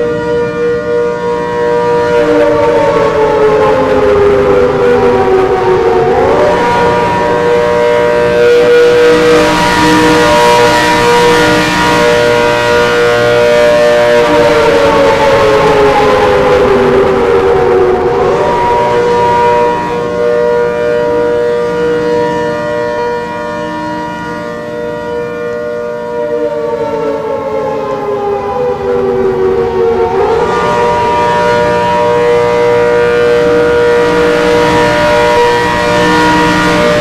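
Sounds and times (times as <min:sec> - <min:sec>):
warning siren two-note chord: 0:00.0 - 0:37.0.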